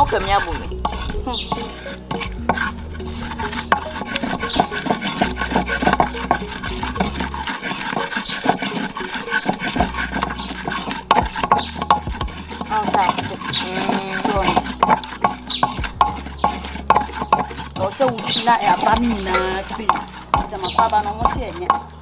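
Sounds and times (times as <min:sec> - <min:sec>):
wooden pestle scraping clay bowl: 0:00.0 - 0:22.0.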